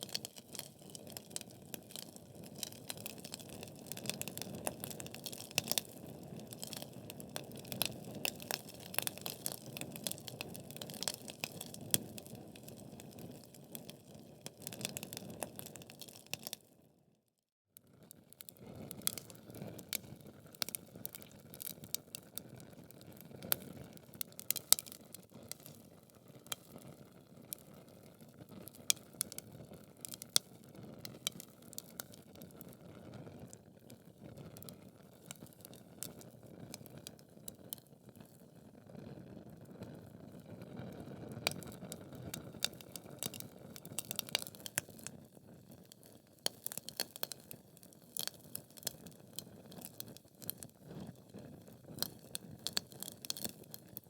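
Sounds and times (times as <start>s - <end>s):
logs crackling and popping: 0.0s - 16.6s, 18.5s - 32.8s, 34.5s - 38.4s, 41.4s - 54.0s.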